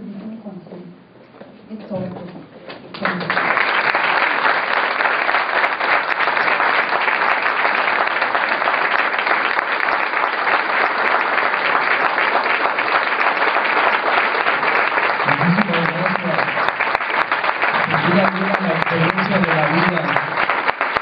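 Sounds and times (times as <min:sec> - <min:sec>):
audience applauding: 0:02.9 - 0:21.0.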